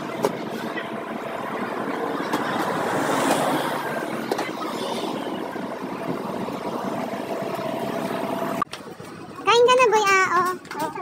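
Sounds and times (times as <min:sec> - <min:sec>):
bus driving past: 0:00.0 - 0:09.4
street traffic noise: 0:00.0 - 0:11.0.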